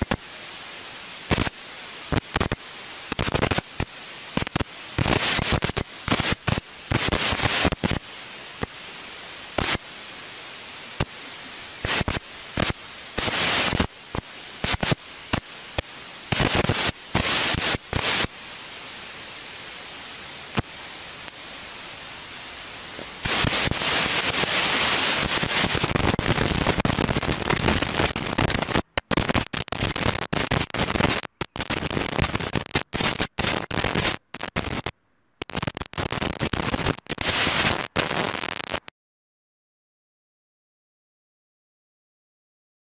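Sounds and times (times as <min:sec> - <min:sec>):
loud crackling bursts: 0:00.0 - 0:38.9
static hiss: 0:00.0 - 0:38.9.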